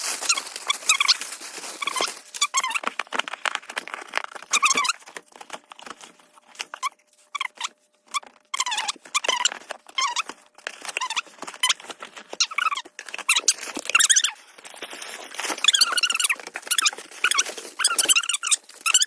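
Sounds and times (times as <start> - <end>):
packaging clicks and rustling: 0.0 - 19.0.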